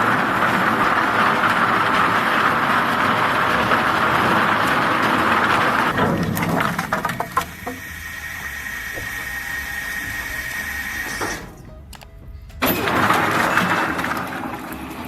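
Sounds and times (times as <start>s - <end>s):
log debarking machine running: 0.0s - 15.0s.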